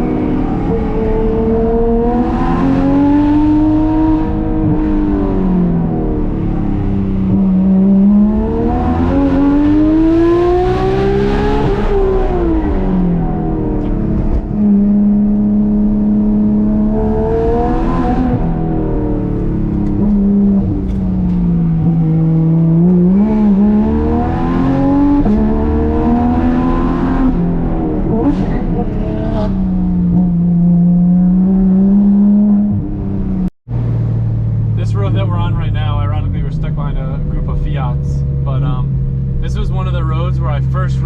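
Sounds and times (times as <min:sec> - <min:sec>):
sports car engine revving: 0:00.0 - 0:41.0.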